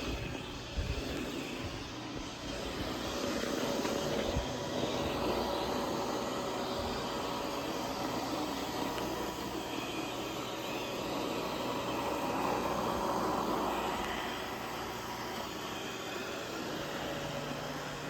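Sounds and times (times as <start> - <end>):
robot vacuum whirring: 0.0 - 18.0.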